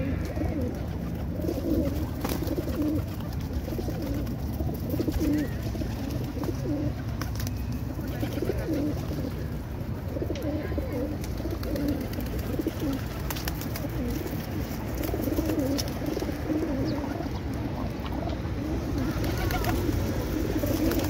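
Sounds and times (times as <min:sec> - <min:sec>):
pigeons cooing: 0:00.0 - 0:07.3, 0:08.0 - 0:21.0.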